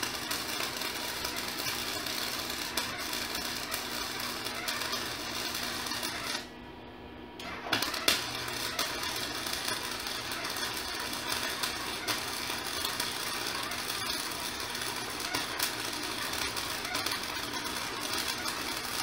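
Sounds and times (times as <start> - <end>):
welding arc striking crack: 0.0 - 6.5, 7.4 - 19.0
arc welding crackling sizzle: 0.0 - 6.6, 7.4 - 19.0.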